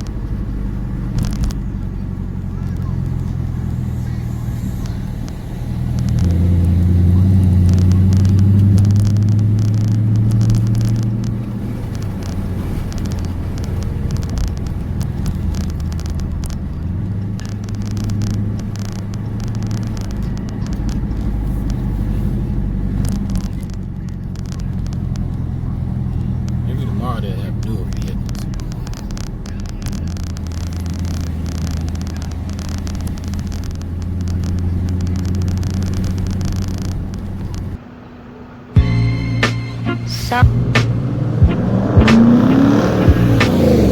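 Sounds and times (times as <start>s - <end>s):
car engine droning: 0.0s - 43.9s.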